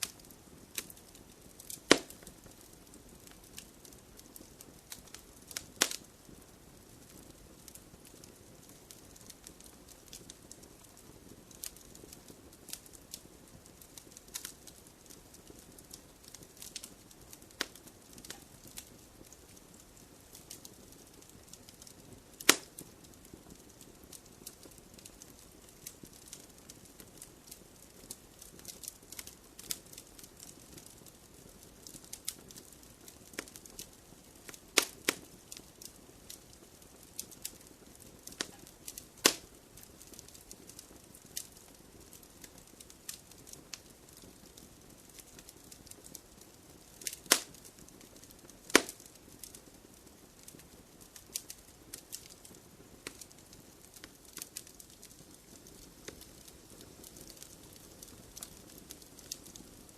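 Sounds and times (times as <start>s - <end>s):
sharp pops of fire: 0.0s - 59.9s
wood fire crackling: 0.0s - 59.9s.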